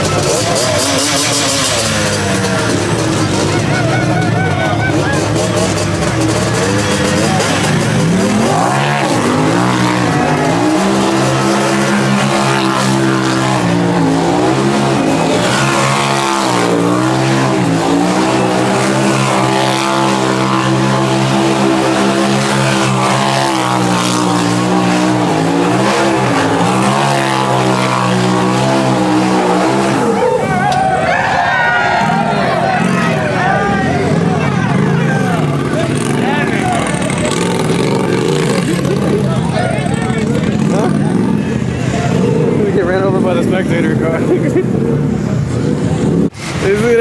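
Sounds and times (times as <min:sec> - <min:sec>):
vehicle engine revving high: 0:00.0 - 0:47.0.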